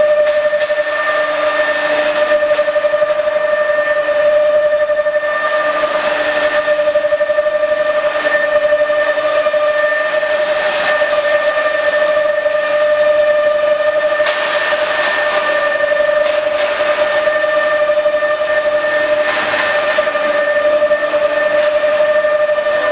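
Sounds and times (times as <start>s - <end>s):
cnc router whine: 0.0s - 22.9s.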